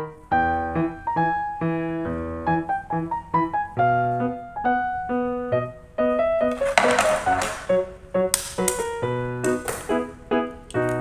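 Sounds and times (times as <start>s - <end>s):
light piano tune: 0.0s - 11.0s.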